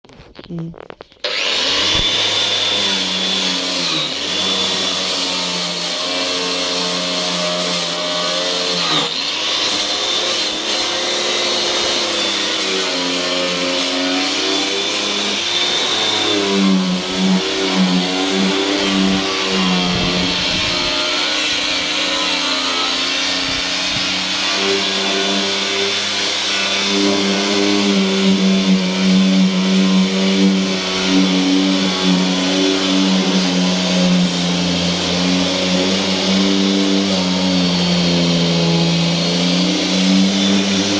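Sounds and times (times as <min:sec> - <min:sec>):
power tool motor whirring: 0:00.4 - 0:40.9.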